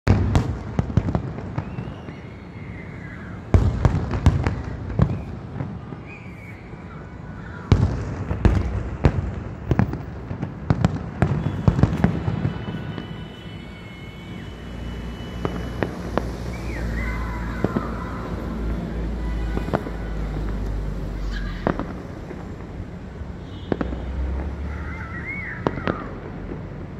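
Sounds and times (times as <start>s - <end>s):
fireworks exploding: 0.1s - 26.9s.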